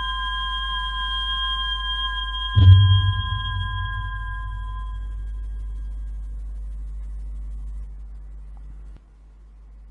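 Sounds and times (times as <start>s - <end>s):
low steady hum: 0.0s - 9.9s.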